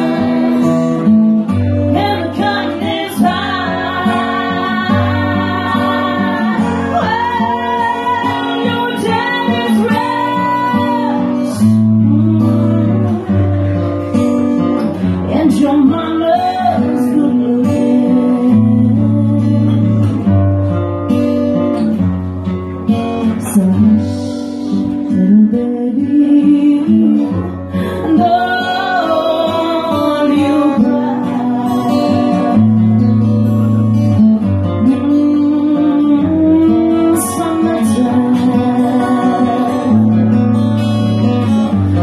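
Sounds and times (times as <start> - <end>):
woman singing into a microphone: 0.0 - 20.5, 23.2 - 42.0
acoustic guitar: 0.0 - 42.0.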